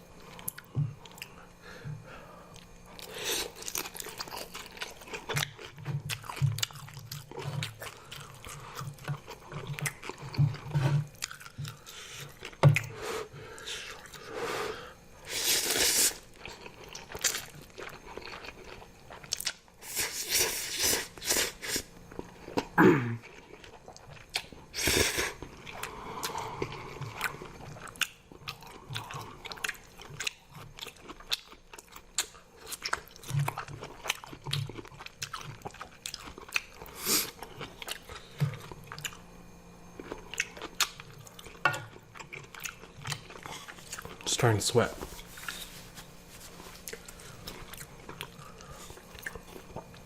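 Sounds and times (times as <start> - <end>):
chewing and crunching food: 0.0 - 50.0.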